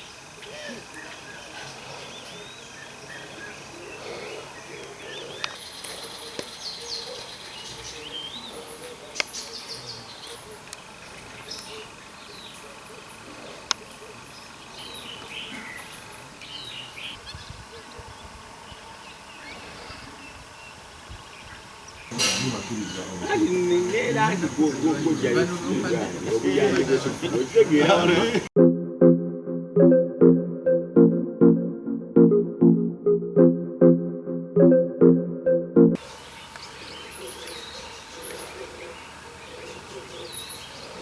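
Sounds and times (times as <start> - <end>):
birds chirping and whistling: 0.0 - 28.5, 36.1 - 41.0
insect drone: 0.0 - 28.5, 36.0 - 41.0.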